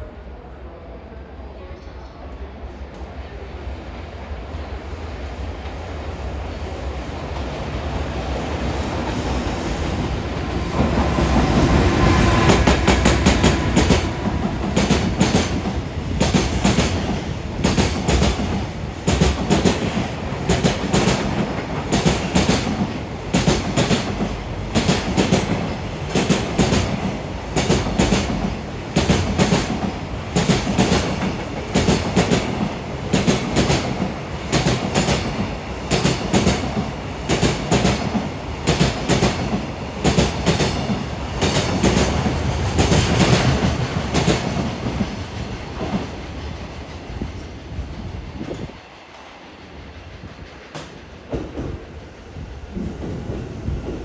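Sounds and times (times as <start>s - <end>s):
electric locomotive passing: 0.0s - 54.0s.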